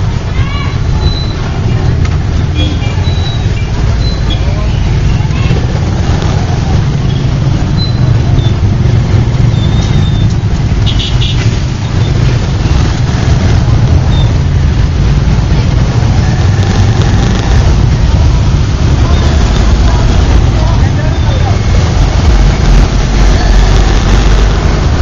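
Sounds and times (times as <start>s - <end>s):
motorcycle engine rumble: 0.0s - 25.0s
traffic engines: 0.0s - 25.0s.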